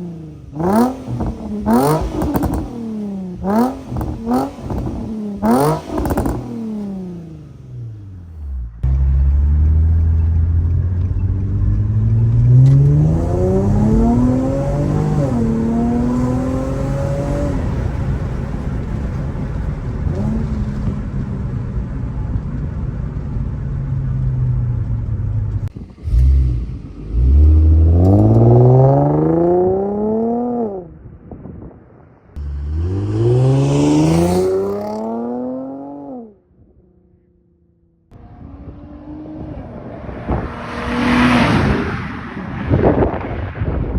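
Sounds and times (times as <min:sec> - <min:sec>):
car engine accelerating: 0:00.0 - 0:31.1, 0:32.4 - 0:43.7.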